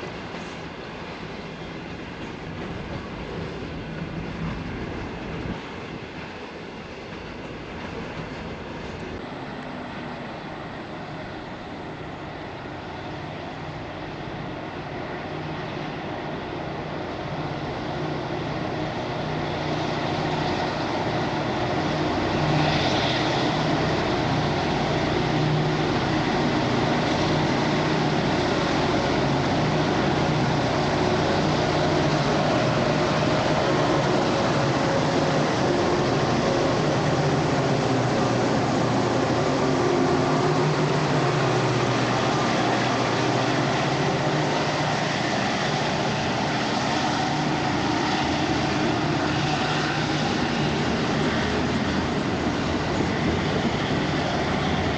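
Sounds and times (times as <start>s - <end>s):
locomotive engines droning: 0.0s - 54.9s.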